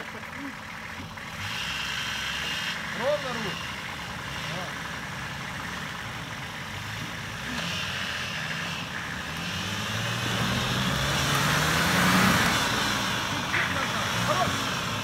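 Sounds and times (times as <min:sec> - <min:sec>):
suv engine pulling through mud: 0:00.0 - 0:15.0.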